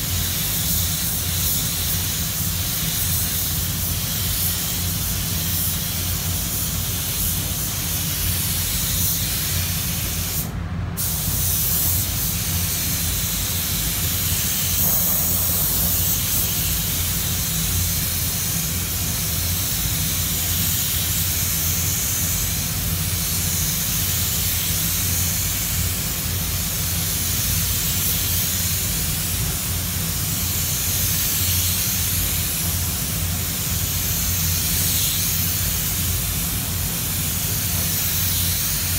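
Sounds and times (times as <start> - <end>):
paint spray gun hissing: 0.0 - 38.9
spray booth low hum: 0.0 - 38.9.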